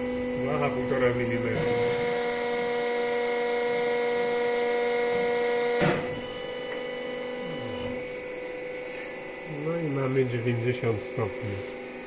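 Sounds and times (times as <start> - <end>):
hydraulic pump whining: 0.0 - 12.0.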